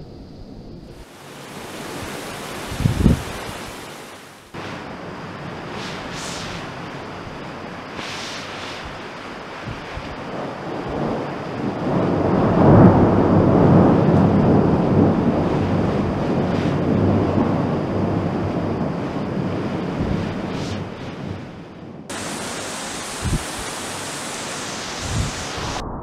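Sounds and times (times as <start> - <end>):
thunder rumbling: 0.0 - 26.0
heavy rain hiss: 0.9 - 25.8.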